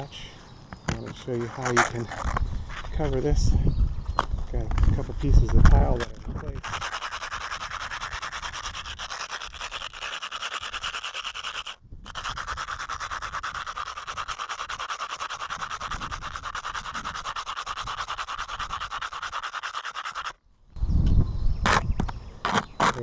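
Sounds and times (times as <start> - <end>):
shingle scraping on roof: 0.9 - 3.2, 4.6 - 20.4, 21.6 - 23.0.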